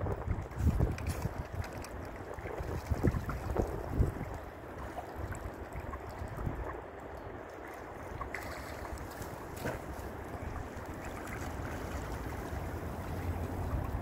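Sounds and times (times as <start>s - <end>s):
wind buffeting microphone: 0.0s - 14.0s
water lapping: 0.2s - 14.0s
small splashes: 0.6s - 14.0s.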